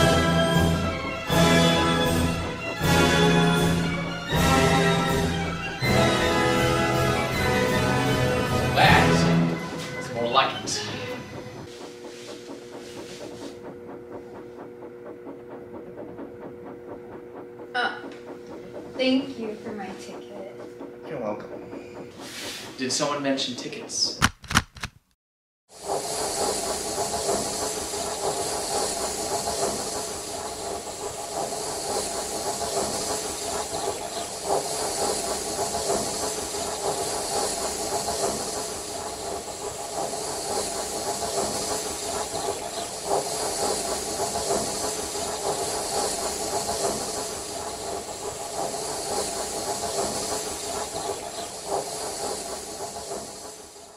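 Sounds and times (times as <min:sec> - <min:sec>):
steam locomotive hissing: 0:00.0 - 0:24.2, 0:25.7 - 0:53.9.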